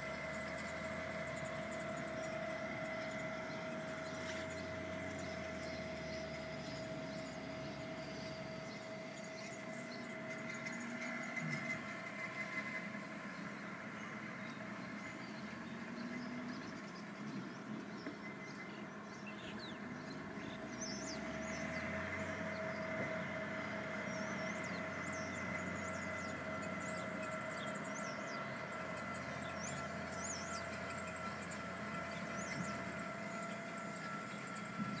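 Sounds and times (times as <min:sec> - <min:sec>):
birds chirping: 0:00.0 - 0:35.0
low drone: 0:00.0 - 0:35.0
steady mechanical hum: 0:00.0 - 0:35.0.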